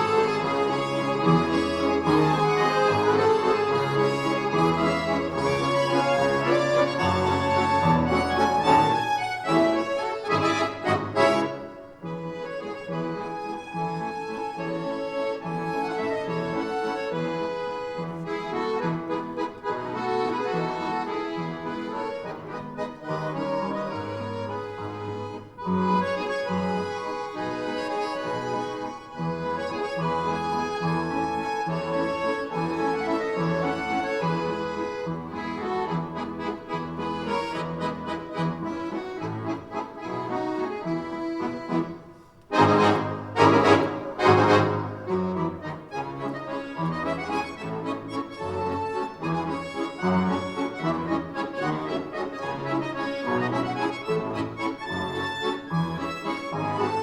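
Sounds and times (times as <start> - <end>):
button accordion orchestra playing: 0.0 - 57.0.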